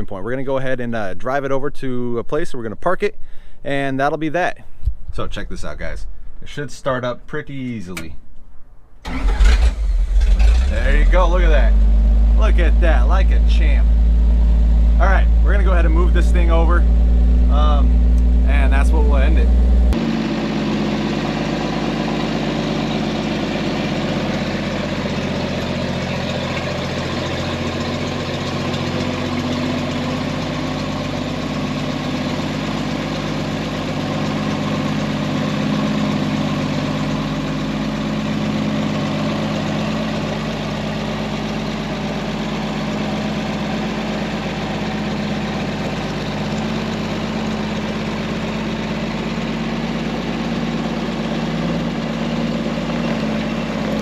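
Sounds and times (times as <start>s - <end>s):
truck engine running: 9.0s - 54.0s.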